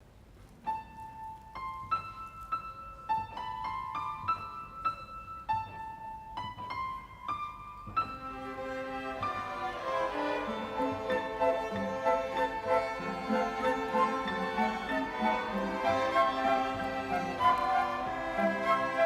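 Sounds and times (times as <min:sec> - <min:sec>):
slow piano melody: 0:00.4 - 0:19.0.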